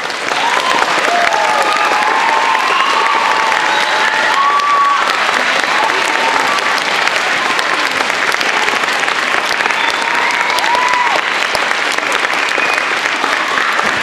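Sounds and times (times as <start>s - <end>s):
children applauding: 0.0s - 14.0s.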